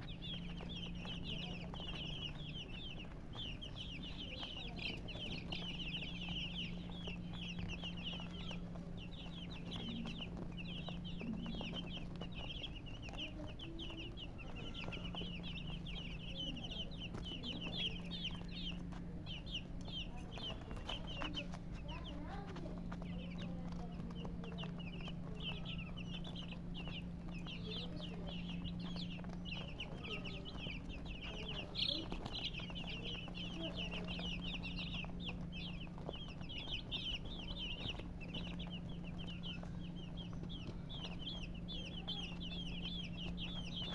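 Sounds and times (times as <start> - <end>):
chicks peeping: 0.0 - 43.9
hen clucking: 0.0 - 43.9
steady low hum: 0.0 - 43.9.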